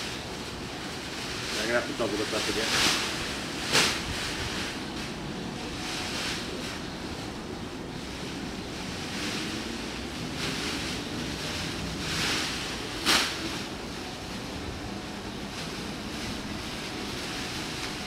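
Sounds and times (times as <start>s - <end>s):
wind noise on microphone: 2.6s - 18.0s.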